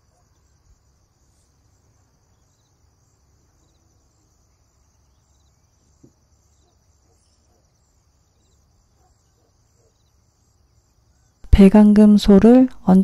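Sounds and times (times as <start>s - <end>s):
faint high chirping: 0.0s - 11.6s.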